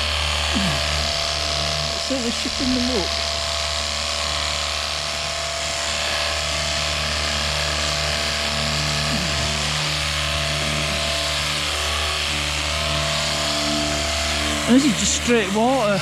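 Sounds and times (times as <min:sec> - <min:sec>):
pressure washer motor hum: 0:00.0 - 0:16.0.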